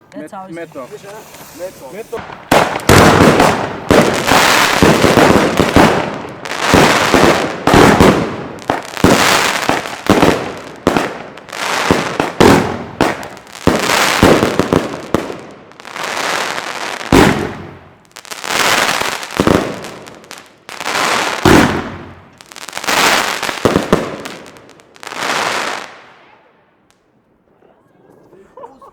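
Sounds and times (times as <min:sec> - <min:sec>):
firework shots and crackle: 0:00.5 - 0:27.1.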